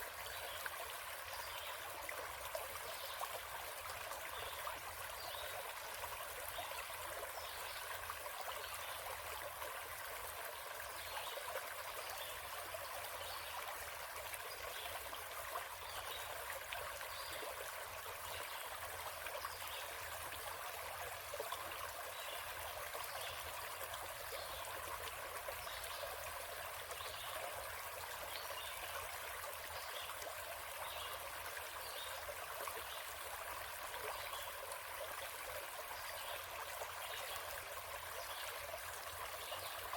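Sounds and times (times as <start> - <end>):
forest stream flowing: 0.0 - 39.9.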